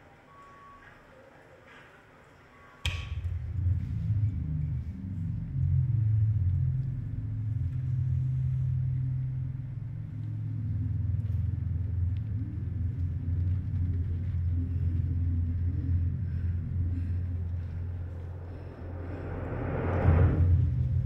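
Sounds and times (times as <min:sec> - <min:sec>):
low rumbling drone: 0:02.9 - 0:21.0.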